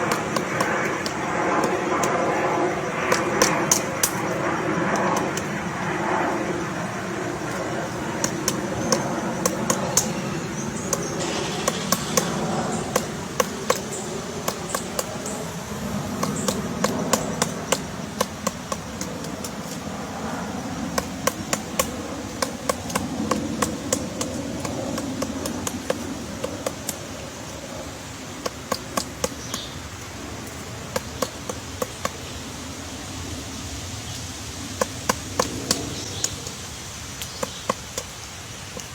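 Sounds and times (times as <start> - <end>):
woodpecker pecking wood: 0.0 - 32.5, 34.1 - 38.9.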